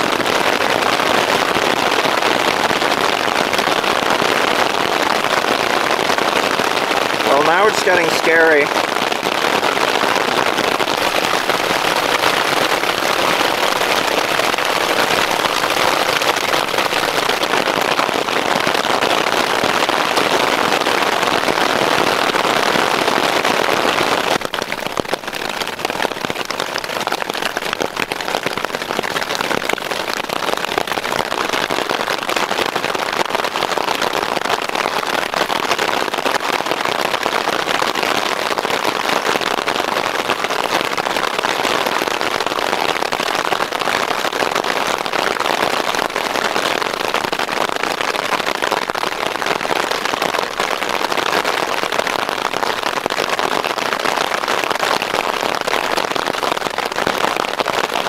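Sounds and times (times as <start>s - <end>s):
hail and rain drumming on tarp: 0.0s - 58.0s.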